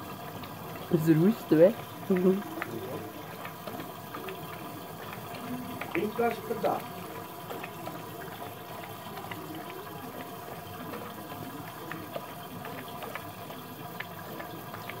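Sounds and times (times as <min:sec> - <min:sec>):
dog lapping from metal bowl: 0:00.4 - 0:15.0.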